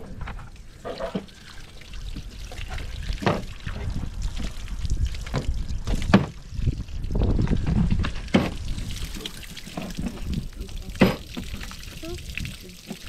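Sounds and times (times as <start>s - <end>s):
hose water splashing on plastic: 0.5s - 13.0s.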